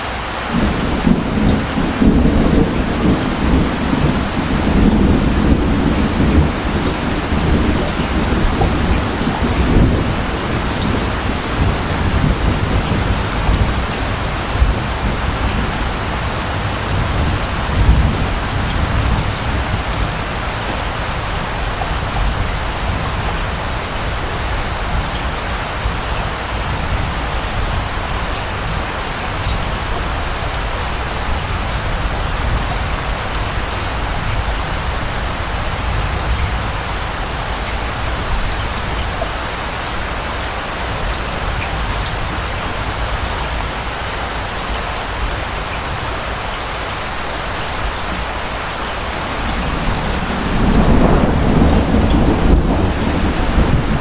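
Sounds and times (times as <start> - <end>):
steady rain: 0.0 - 54.0
distant thunder rumbling: 0.5 - 44.4, 47.6 - 54.0.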